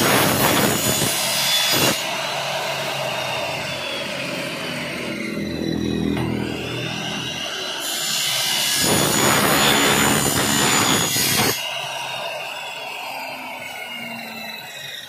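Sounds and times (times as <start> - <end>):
miter saw cutting metal: 0.0 - 15.0
saw blade spinning down: 0.0 - 15.0.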